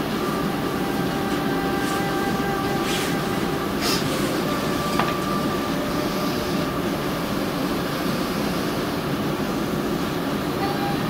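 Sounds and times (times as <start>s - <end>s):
low rumble in large hall: 0.0s - 11.0s.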